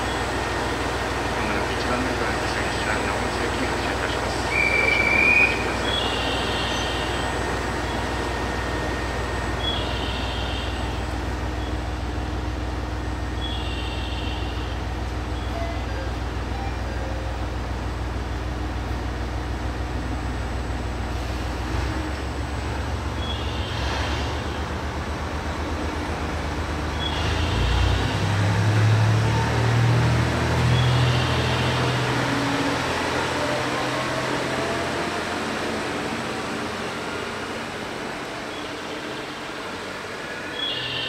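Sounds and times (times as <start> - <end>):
diesel train engine humming: 0.0 - 41.0.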